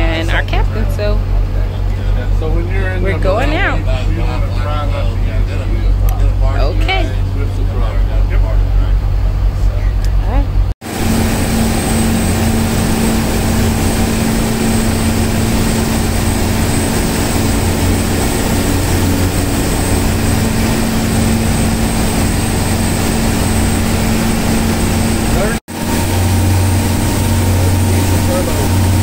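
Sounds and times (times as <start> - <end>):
boat engine drone: 0.0 - 29.0.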